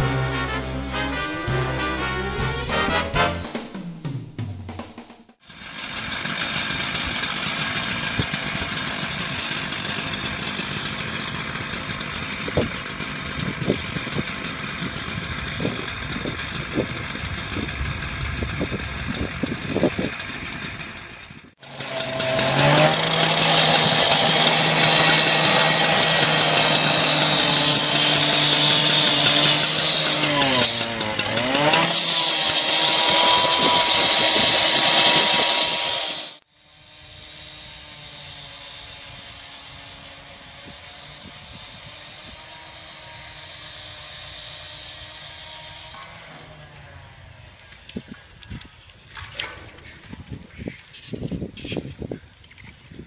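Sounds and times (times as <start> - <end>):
cut-off saw grinding through steel: 5.4 - 48.5.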